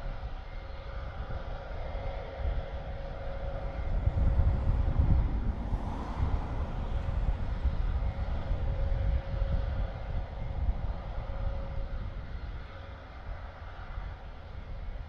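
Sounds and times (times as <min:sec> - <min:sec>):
turboprop engines idling: 0:00.0 - 0:15.0.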